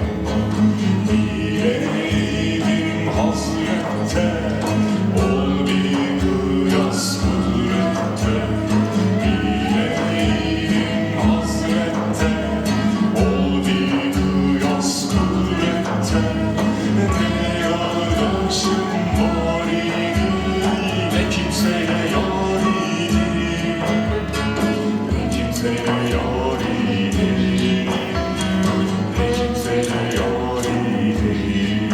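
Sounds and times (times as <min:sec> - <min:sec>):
person singing: 0:00.0 - 0:31.9.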